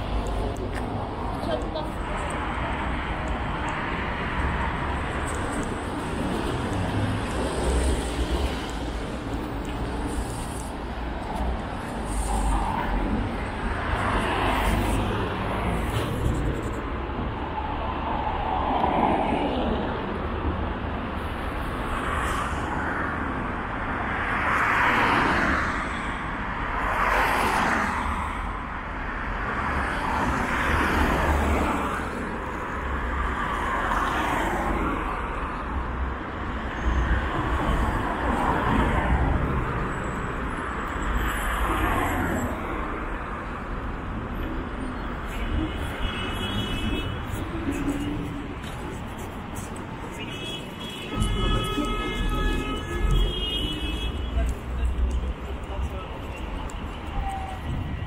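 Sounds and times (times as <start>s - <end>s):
cars and buses passing: 0.0s - 58.0s.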